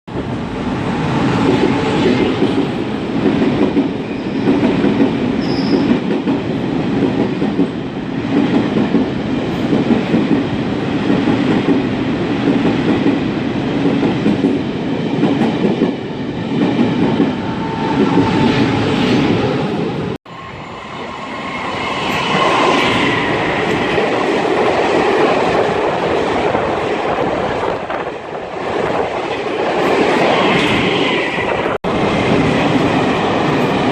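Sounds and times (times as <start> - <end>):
train rumbling past: 0.1 - 33.9.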